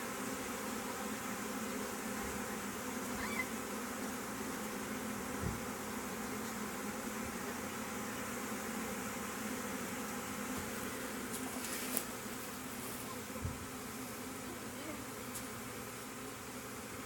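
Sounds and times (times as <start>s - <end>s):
bee swarm buzzing: 0.0s - 17.0s.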